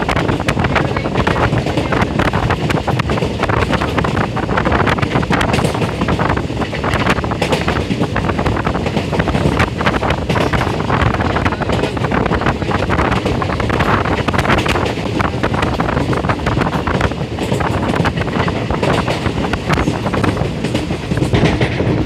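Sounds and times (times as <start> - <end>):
train clattering and rattling: 0.0 - 22.0
train wheels on rails: 0.0 - 22.0
wind buffeting microphone: 0.0 - 22.0.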